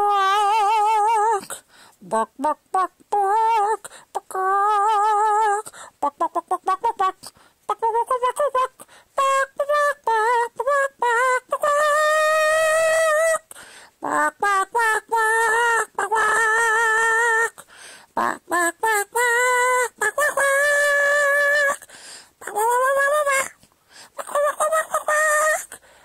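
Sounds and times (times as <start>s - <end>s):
woman singing mock-operatic: 0.0s - 25.9s.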